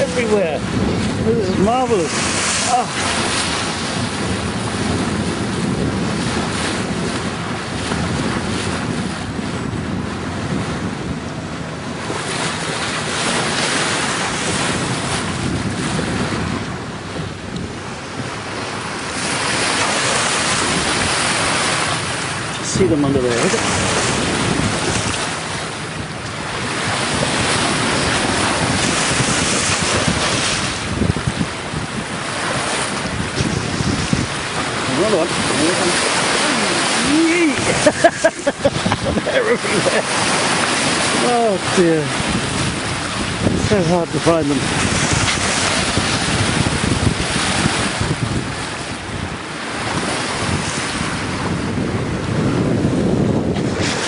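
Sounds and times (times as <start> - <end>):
water rushing along boat hull: 0.0 - 54.0
wind buffeting microphone: 0.0 - 54.0.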